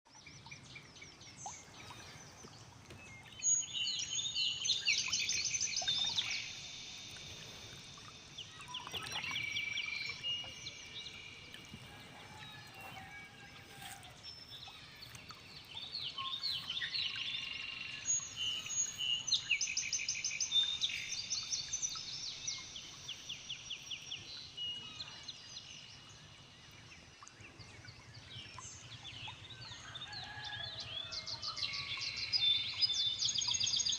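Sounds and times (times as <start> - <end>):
birds chirping and trilling: 0.3 - 33.9.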